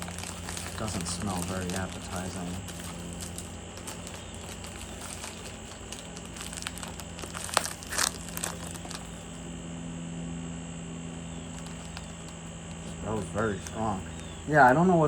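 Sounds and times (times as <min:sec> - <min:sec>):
wrapper tearing: 0:00.0 - 0:09.4, 0:11.5 - 0:14.8
plastic wrapper crinkling: 0:00.0 - 0:09.5, 0:11.5 - 0:15.0.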